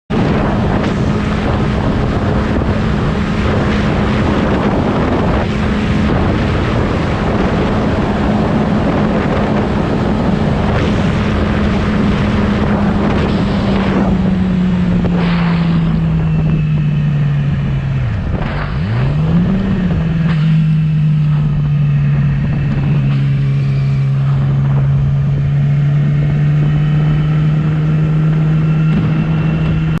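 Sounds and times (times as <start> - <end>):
motorcycle engine cruising: 0.1 - 30.0
wind rush over microphone: 0.1 - 30.0.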